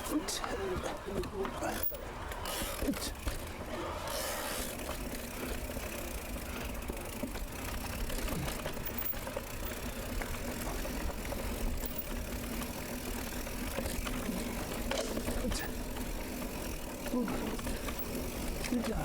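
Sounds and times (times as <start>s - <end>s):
bike clicks and rattles: 0.0s - 19.0s
bike tyres rumbling on dirt: 0.0s - 19.0s.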